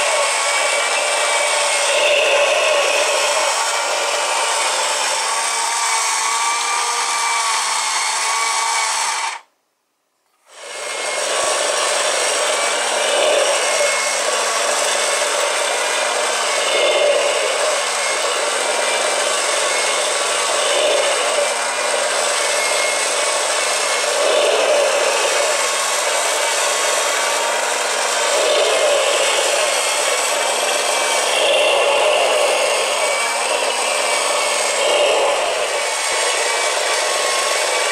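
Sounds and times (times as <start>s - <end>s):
plastic engine model whirring: 0.0s - 9.5s, 10.3s - 37.9s.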